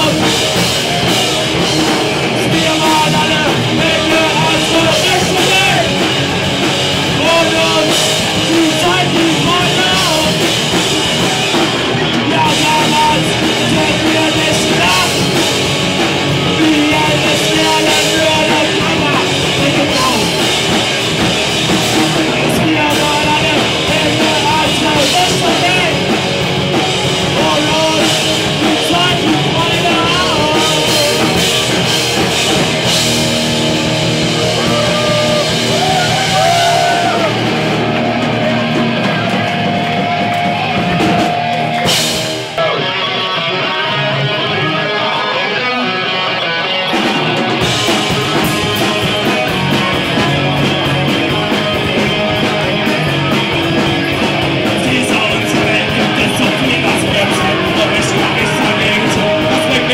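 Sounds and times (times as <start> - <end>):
singer on microphone: 0.0 - 33.0, 34.2 - 41.9, 42.6 - 59.9
live rock band playing: 0.0 - 59.9.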